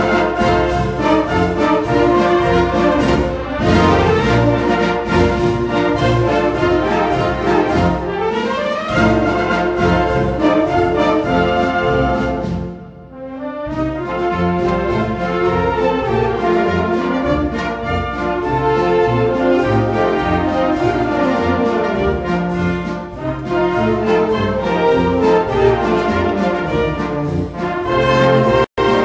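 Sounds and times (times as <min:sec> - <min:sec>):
brass band music: 0:00.0 - 0:29.0.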